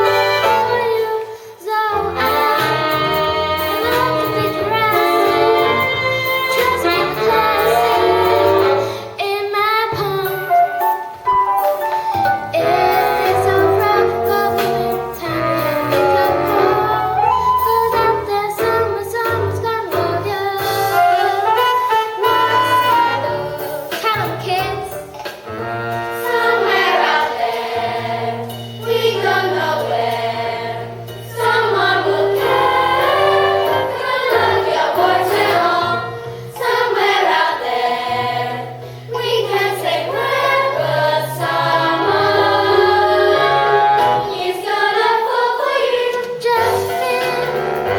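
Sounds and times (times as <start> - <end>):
young voices singing: 0.0 - 11.2, 12.5 - 25.1, 26.1 - 47.9
instrumental accompaniment: 0.0 - 47.9.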